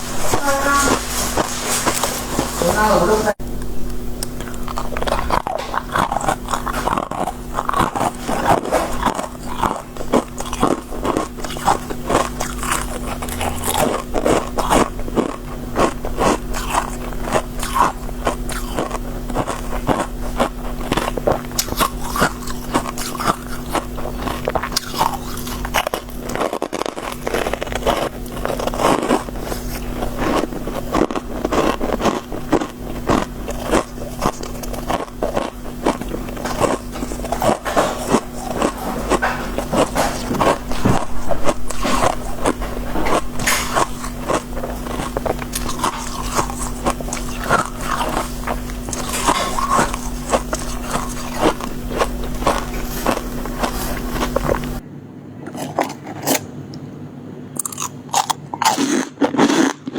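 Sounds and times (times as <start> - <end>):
ice crunching being chewed: 0.0 - 54.8, 55.4 - 56.5, 57.6 - 59.9
steady low hum: 0.0 - 59.9.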